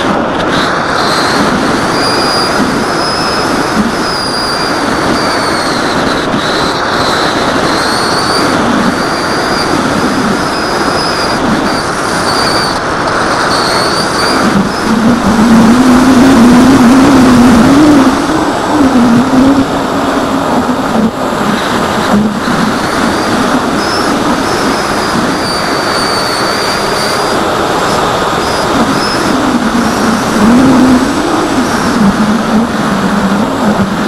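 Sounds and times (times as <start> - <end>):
air rushing past microphone: 0.0 - 34.0
faint high motor whine: 0.0 - 34.0
low propeller hum: 0.0 - 34.0.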